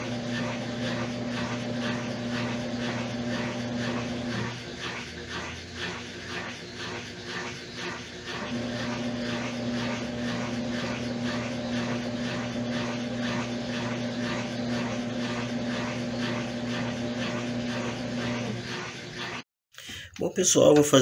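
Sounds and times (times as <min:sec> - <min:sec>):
agitator swishing: 0:00.0 - 0:19.4
washing machine humming: 0:00.0 - 0:21.0.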